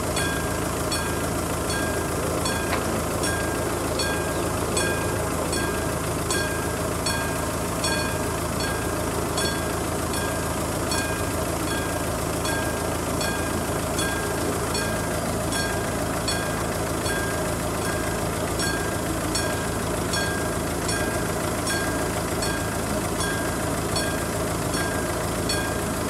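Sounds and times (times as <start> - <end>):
low engine rumble: 0.0 - 26.0
warning bell ringing: 0.0 - 26.0.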